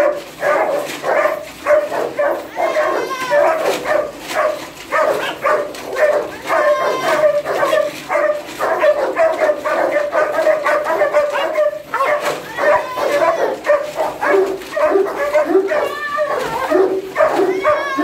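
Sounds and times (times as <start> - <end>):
dogs barking yipping and whining: 0.0 - 18.0.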